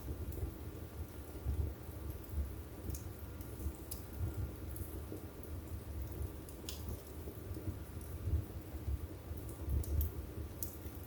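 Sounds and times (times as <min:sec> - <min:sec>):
faint fire crackles: 0:00.0 - 0:11.0
fire flames rumbling: 0:00.0 - 0:11.0.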